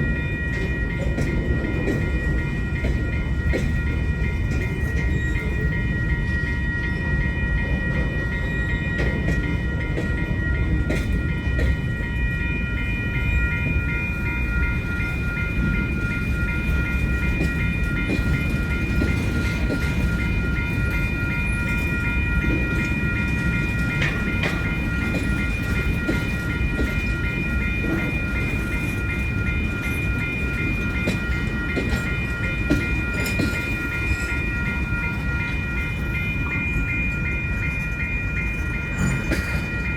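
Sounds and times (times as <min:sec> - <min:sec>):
crossing warning bell ringing: 0:00.0 - 0:39.9
freight train cars rumbling past: 0:00.0 - 0:39.9.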